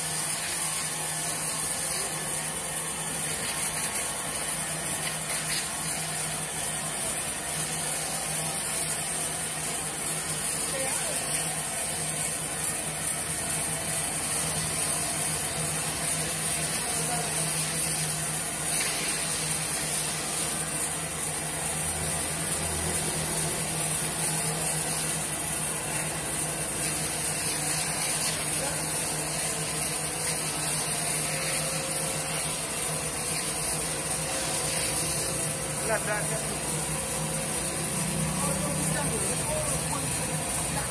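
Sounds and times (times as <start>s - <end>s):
sawmill machine running: 0.0s - 40.9s.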